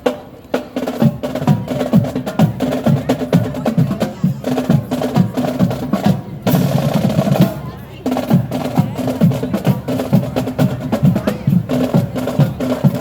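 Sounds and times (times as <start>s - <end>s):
marching band drums: 0.0s - 13.0s.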